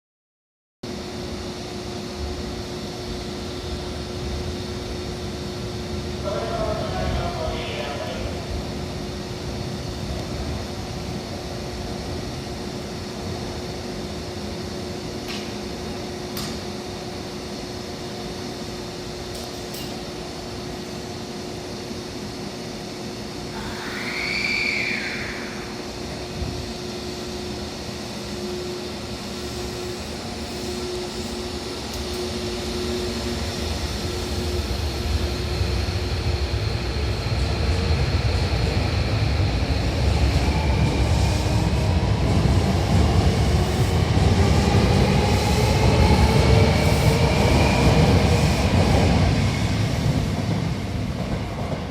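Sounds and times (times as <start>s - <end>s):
electric train humming: 0.9s - 51.9s
train rumbling: 1.0s - 51.9s.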